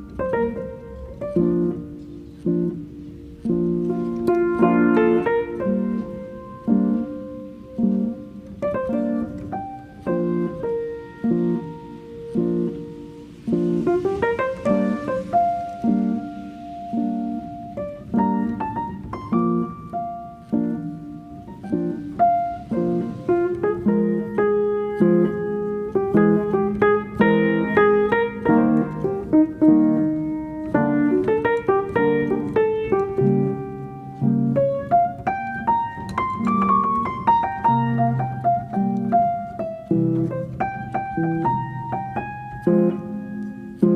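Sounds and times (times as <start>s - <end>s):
calm solo piano music: 0.0s - 43.9s.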